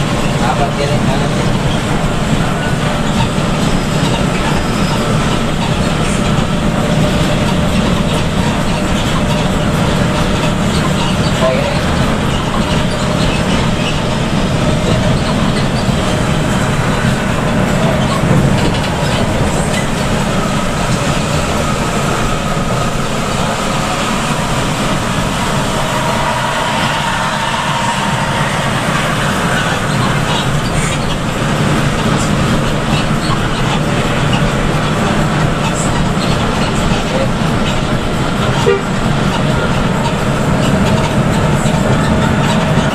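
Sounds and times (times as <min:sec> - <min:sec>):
bus engine drone: 0:00.0 - 0:42.9
tyres hissing on wet road: 0:00.0 - 0:42.9.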